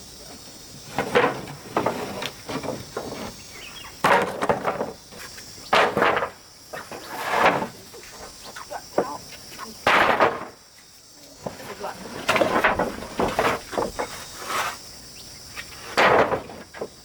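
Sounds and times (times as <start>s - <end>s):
insect buzz: 0.0s - 17.0s.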